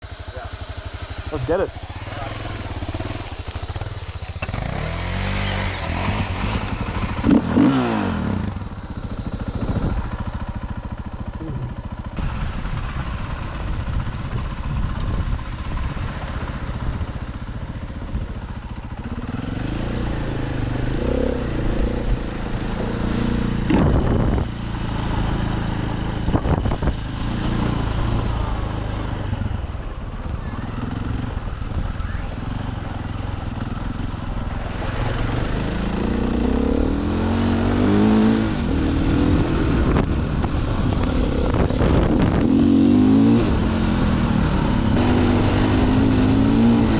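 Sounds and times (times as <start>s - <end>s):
dirt bike engine revving: 0.1s - 14.8s, 15.7s - 46.9s.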